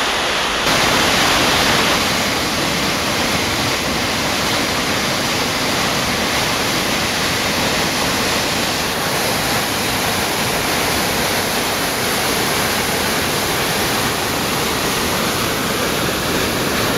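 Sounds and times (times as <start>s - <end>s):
flood water roaring: 0.0s - 16.9s.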